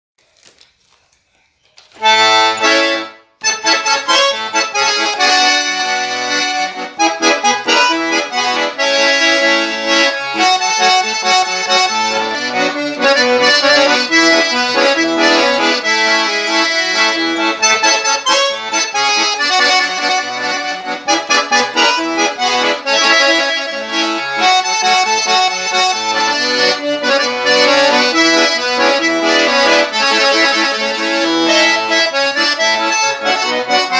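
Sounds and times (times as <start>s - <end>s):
accordion playing a tune: 2.0s - 33.9s.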